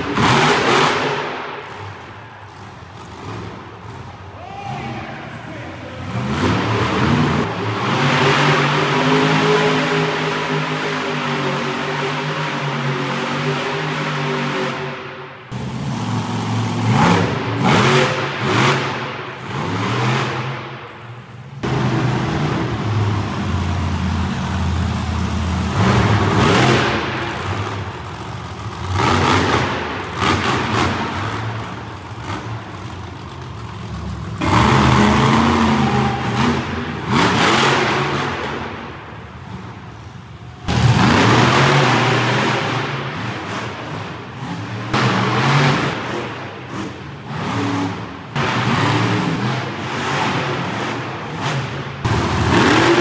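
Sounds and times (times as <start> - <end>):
truck engines revving: 0.0 - 53.0.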